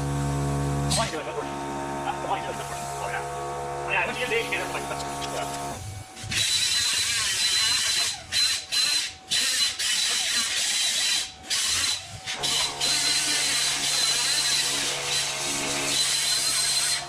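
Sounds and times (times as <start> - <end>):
plasma cutter hissing: 0.9 - 3.4, 4.0 - 17.0.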